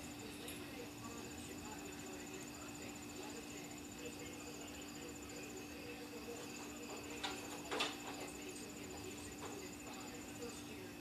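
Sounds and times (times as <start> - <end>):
crickets chirping: 0.0 - 11.0
faint steady hum: 0.0 - 11.0.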